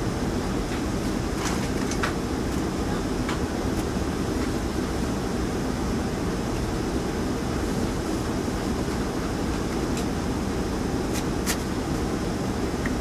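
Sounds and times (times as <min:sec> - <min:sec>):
low rumbling machinery: 0:00.0 - 0:13.0.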